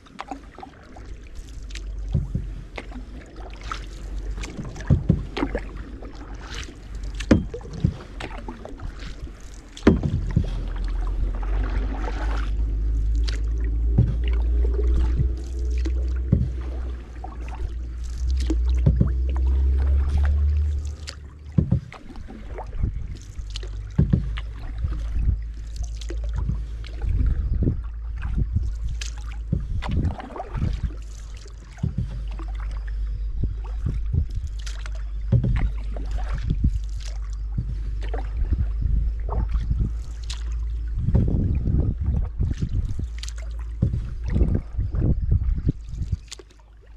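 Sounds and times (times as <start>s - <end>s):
water dripping: 0.0s - 32.9s, 33.5s - 41.8s, 42.4s - 46.6s
kayak paddle splashing: 0.0s - 46.9s
wind rumble on microphone: 0.0s - 46.9s.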